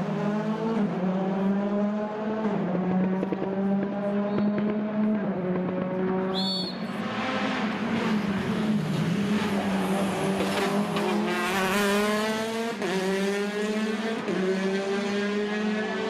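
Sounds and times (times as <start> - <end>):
rally car engine accelerating: 0.0 - 6.3, 7.0 - 16.0.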